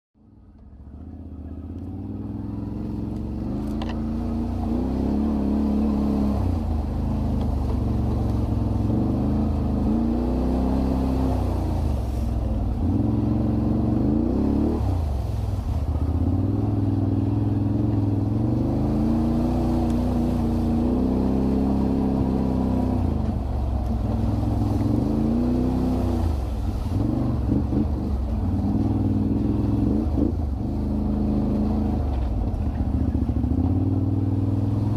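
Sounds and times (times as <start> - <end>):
quad bike engines revving: 0.8 - 34.9.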